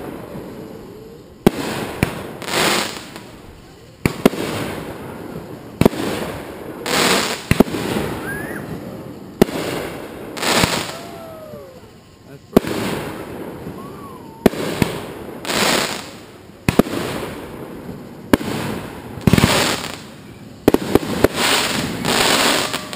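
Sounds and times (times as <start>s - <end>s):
fireworks bangs: 0.0s - 22.9s
fireworks crackling bursts: 0.0s - 22.9s.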